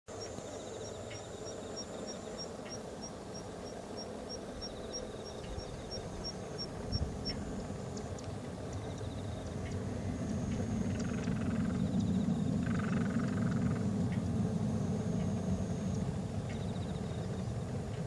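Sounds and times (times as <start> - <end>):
background hiss: 0.1 - 18.0
insects chirping: 0.1 - 18.0
pulsing insect trill: 0.1 - 18.0.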